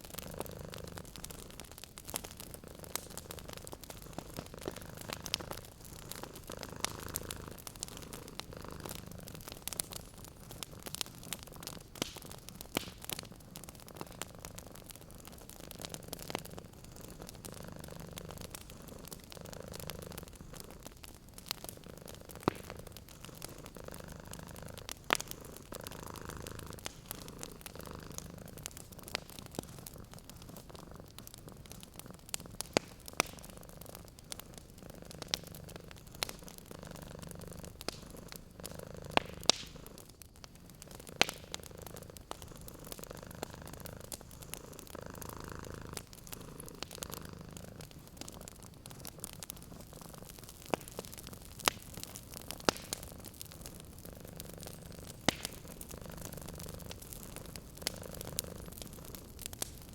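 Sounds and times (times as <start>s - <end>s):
cat purring: 0.0s - 59.8s
wood fire crackling: 0.0s - 59.9s.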